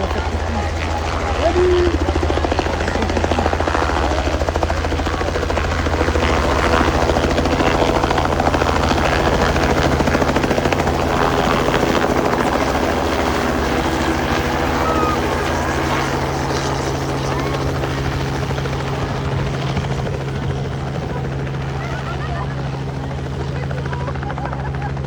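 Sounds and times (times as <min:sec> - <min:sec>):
turbine whine: 0:00.0 - 0:24.9
helicopter rotor beat: 0:00.0 - 0:25.0.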